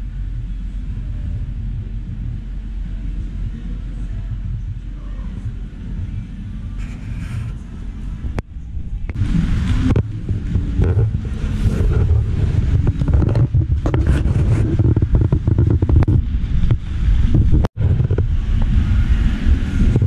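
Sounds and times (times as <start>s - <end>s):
microphone handling rumble: 0.0s - 20.0s
wind noise: 0.0s - 20.0s.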